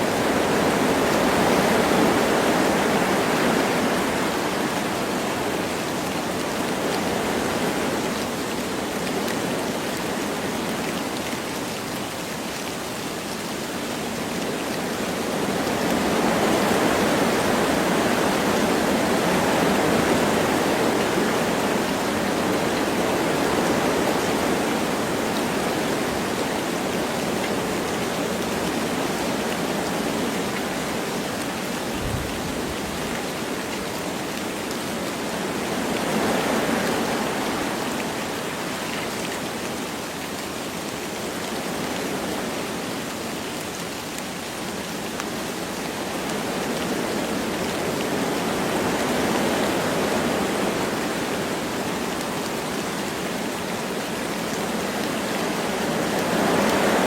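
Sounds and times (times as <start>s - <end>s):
light rain falling: 0.0s - 57.0s
wind through forest trees: 0.0s - 57.0s.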